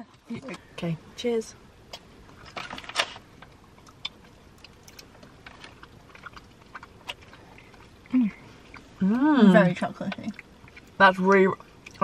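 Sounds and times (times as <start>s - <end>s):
people chewing: 1.9s - 12.0s.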